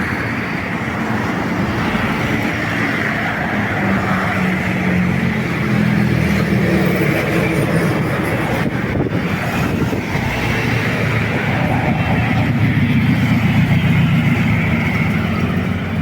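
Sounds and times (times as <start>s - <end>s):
engine running: 0.0s - 16.0s
traffic noise: 0.0s - 16.0s.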